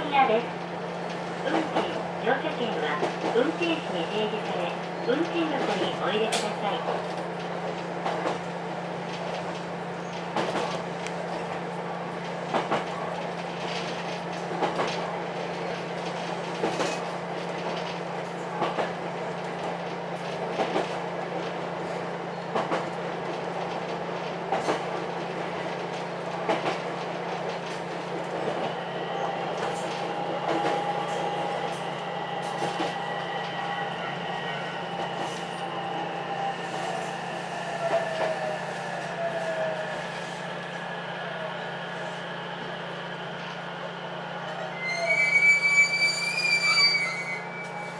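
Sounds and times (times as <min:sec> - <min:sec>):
train low hum: 0:00.0 - 0:47.9.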